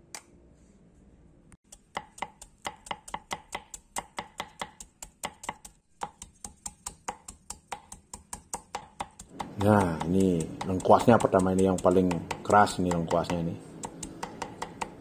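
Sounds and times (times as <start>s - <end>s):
knife chopping on wooden board: 1.7s - 15.0s.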